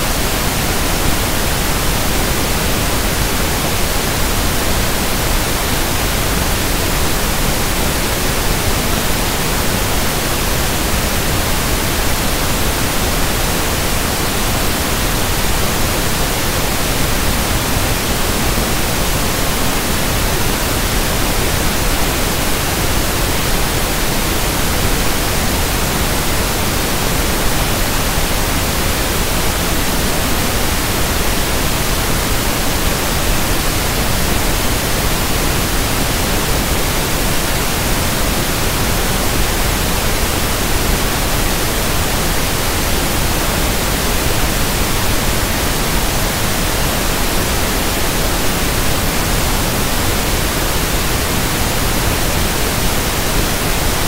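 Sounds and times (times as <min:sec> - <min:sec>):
pink noise hiss: 0:00.0 - 0:54.0.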